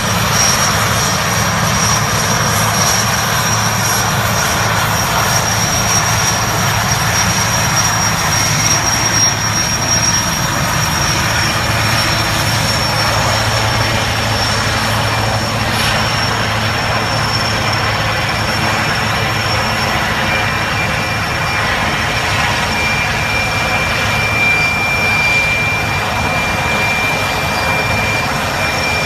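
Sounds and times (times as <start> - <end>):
helicopter rotor rumble: 0.0 - 29.0
helicopter turbine whine: 0.0 - 29.0.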